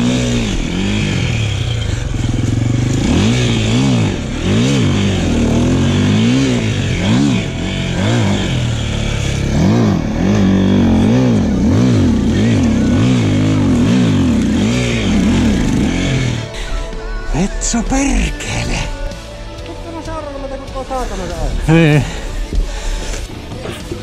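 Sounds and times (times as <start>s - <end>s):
dirt bike engine revving: 0.0s - 19.2s.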